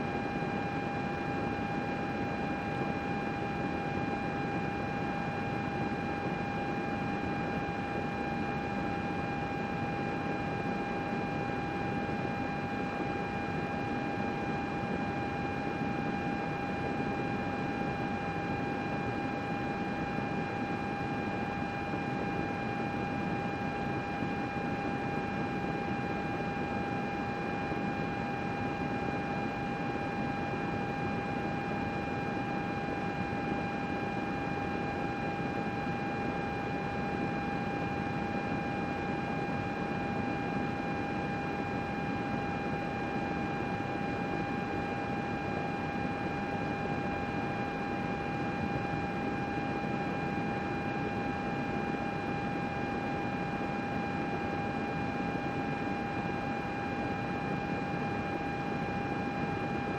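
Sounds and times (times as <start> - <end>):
computer fan whir: 0.0 - 59.9.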